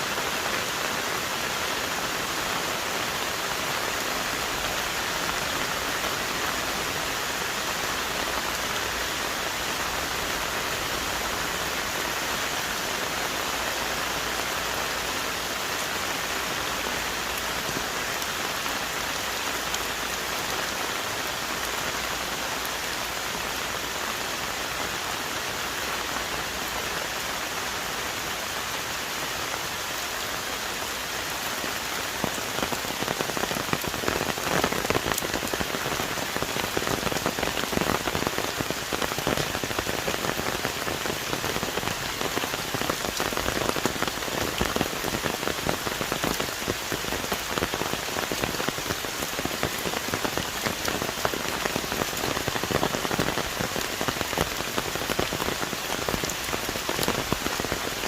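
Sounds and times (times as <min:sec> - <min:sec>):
heavy rain on trees: 0:00.0 - 0:58.0
heavy raindrops pattering: 0:00.0 - 0:58.0.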